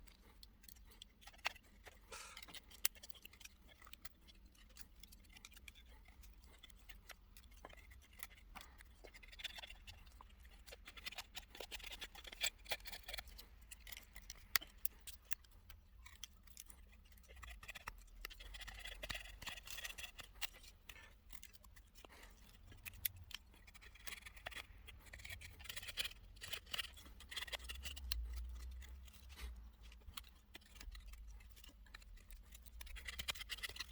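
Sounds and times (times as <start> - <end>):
knife scraping wooden stick: 0.0 - 33.9.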